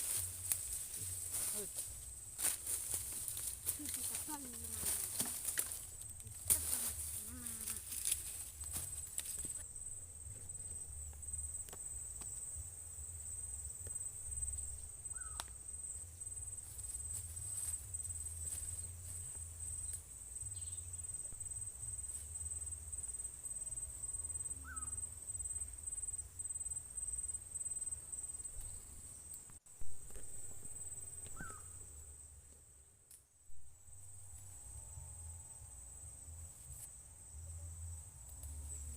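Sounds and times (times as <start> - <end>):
crickets trilling: 0.0 - 32.9, 33.5 - 38.9.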